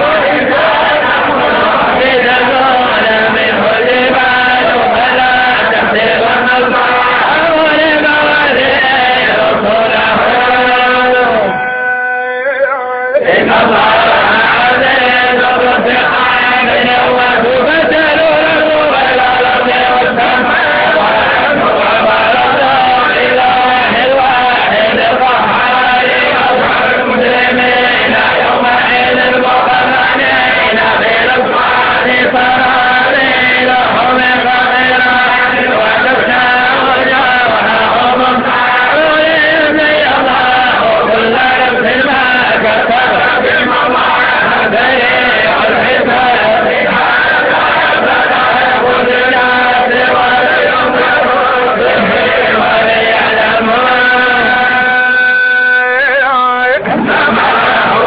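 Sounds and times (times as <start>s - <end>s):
men chanting in unison: 0.0s - 58.0s.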